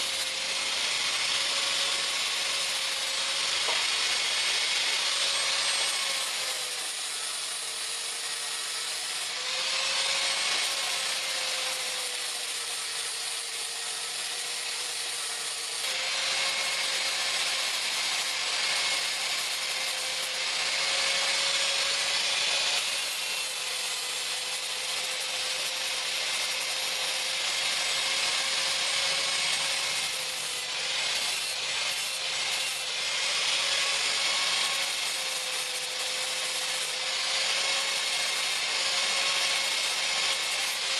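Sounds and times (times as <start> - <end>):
electric grinder grinding steel: 0.0 - 40.9.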